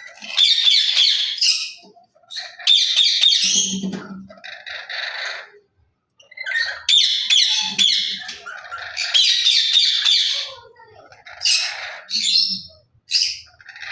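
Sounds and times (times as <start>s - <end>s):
parrot squawking: 0.0s - 5.6s, 6.2s - 13.9s.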